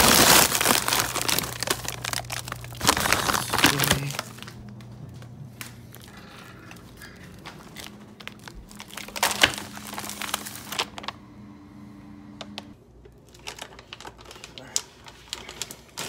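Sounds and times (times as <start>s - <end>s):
plastic bag crinkling: 0.0s - 11.2s, 12.5s - 16.0s
low steady hum: 0.0s - 16.0s.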